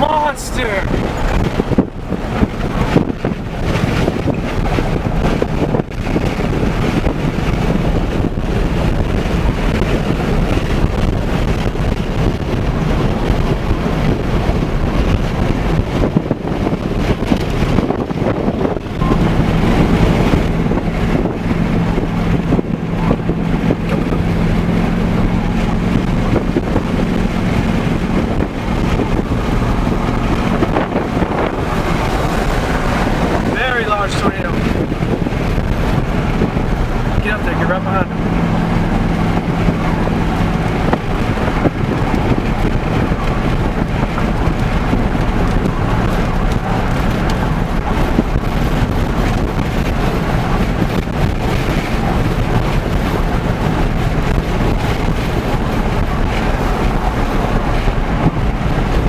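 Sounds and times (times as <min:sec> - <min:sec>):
road and wind noise inside vehicle: 0:00.0 - 0:59.0.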